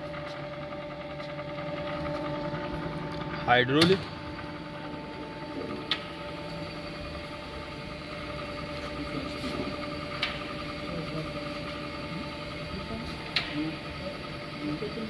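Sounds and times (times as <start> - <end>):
grinder electric hum: 0.0 - 15.0.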